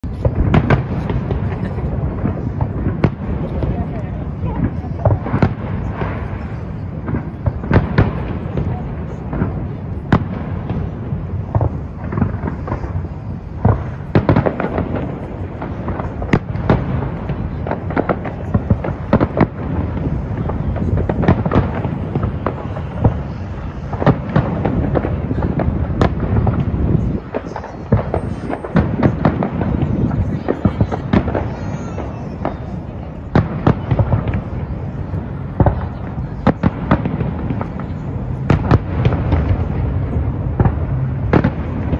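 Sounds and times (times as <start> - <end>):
firework bangs and cracks: 0.0 - 41.9.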